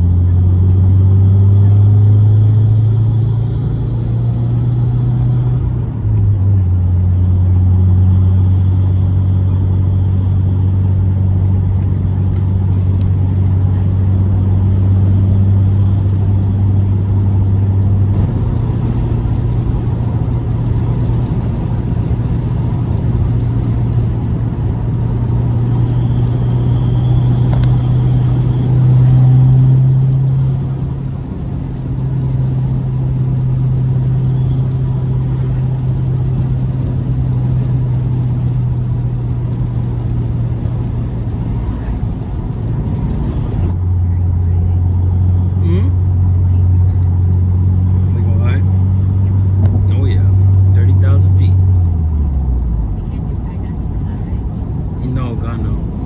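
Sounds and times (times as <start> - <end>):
car engine droning at cruise: 0.0 - 56.0
road noise: 0.0 - 56.0.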